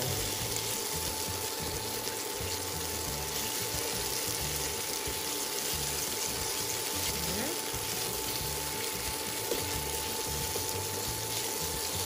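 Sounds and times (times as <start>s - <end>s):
tongs stirring in pan: 0.0s - 12.0s
vegetables sizzling in oil: 0.0s - 12.0s.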